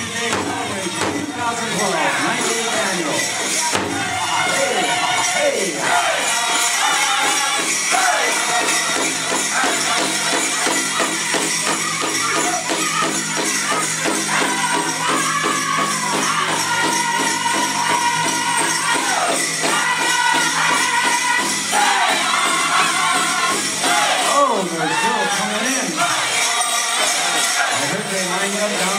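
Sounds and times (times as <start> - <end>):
group singing: 0.0 - 28.9
jingling bells: 0.0 - 28.9
steady drumbeat: 0.0 - 28.9.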